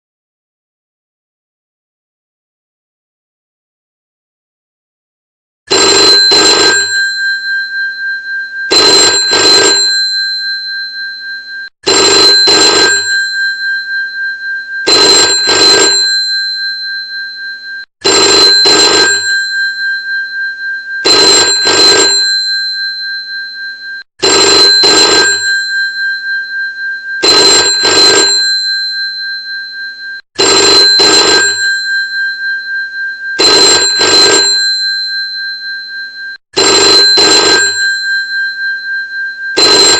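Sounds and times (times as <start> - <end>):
old telephone bell ringing: 5.7 - 39.9.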